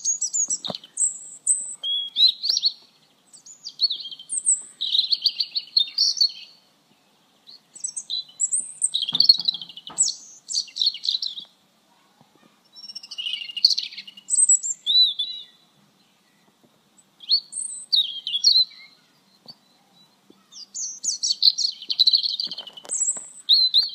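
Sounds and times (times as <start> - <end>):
songbird chirps and trills: 0.0 - 23.9.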